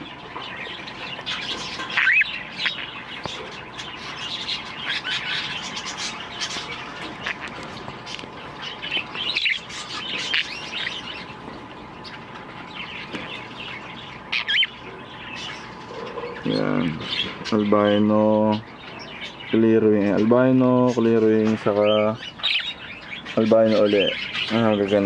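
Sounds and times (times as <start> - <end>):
budgerigars chirping and chattering: 0.0 - 25.0.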